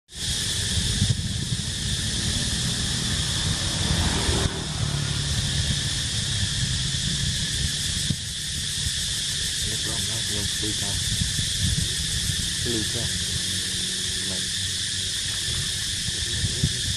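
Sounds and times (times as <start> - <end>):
high-pitched insect drone: 0.1 - 16.9
low rumble: 0.2 - 16.9.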